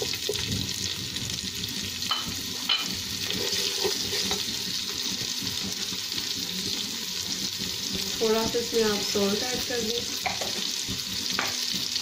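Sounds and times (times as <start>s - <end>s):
corn sizzling in hot oil: 0.0s - 12.0s
spatula stirring in pan: 0.0s - 12.0s.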